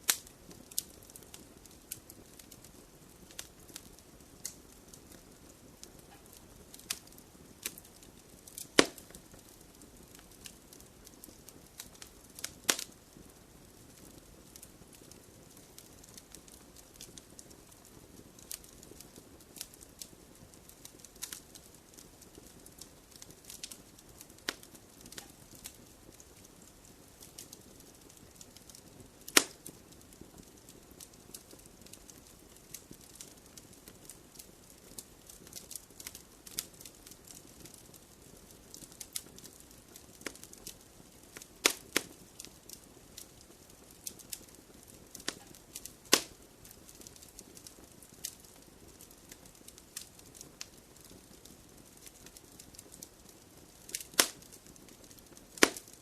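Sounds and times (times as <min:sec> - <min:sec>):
soft low rush of flame: 0:00.0 - 0:56.0
wood fire crackling: 0:00.0 - 0:56.0.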